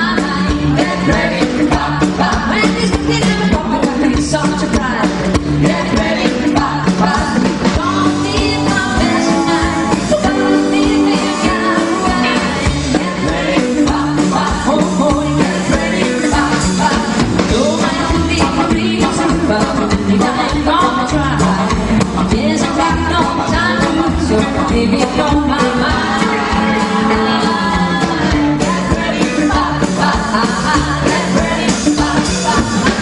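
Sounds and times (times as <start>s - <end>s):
rockabilly band playing live: 0.0s - 33.0s
woman singing: 0.0s - 33.0s
drum beat: 0.1s - 33.0s.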